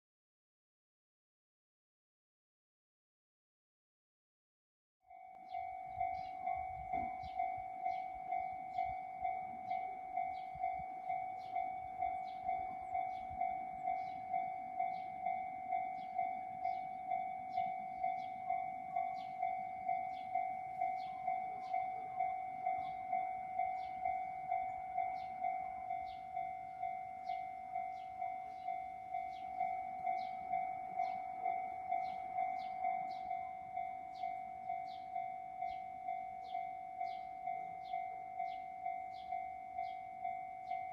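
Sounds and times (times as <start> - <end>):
level-crossing warning bell: 5.1 - 40.9
train passing: 5.1 - 40.9.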